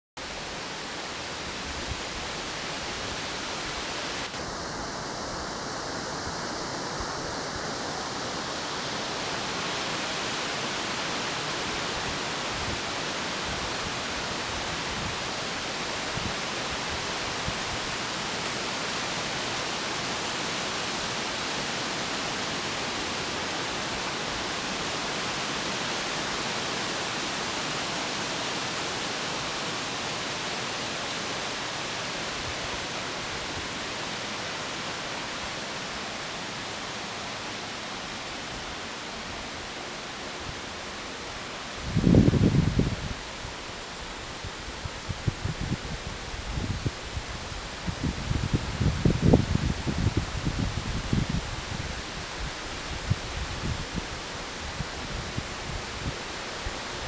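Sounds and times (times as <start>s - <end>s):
rushing water: 0.2s - 57.0s.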